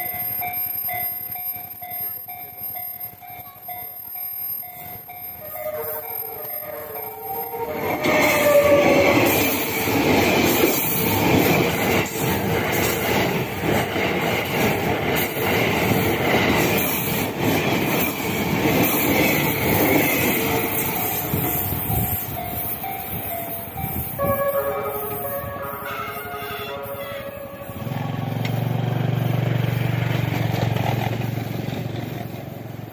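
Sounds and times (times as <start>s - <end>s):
train wheels rolling and clattering: 0.0s - 24.4s, 27.2s - 32.9s
crossing warning bell ringing: 0.0s - 30.6s.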